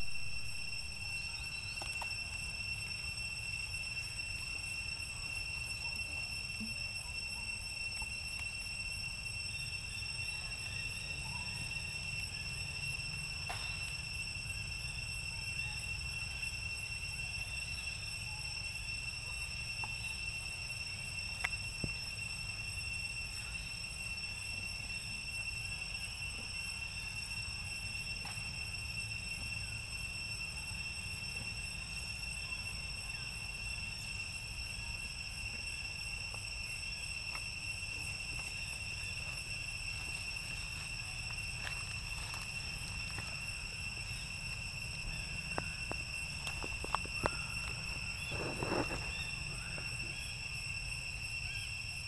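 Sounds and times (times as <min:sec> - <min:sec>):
high-pitched insect drone: 0:00.0 - 0:52.0.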